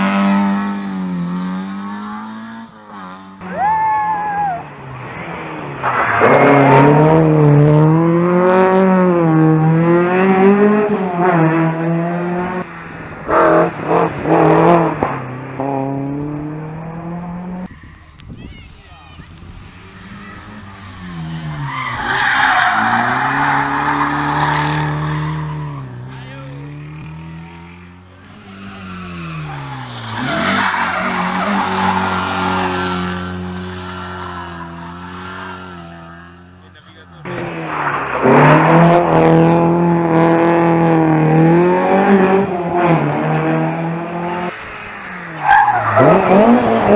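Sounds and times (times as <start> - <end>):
rally car engine at high revs: 0.0 - 3.6, 4.7 - 17.7, 19.6 - 46.9.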